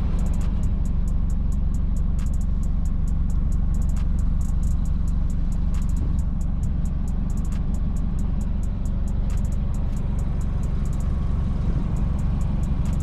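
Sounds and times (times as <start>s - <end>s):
deep steady bass: 0.0s - 13.0s
quick ticking beat: 0.2s - 11.1s, 12.1s - 13.0s.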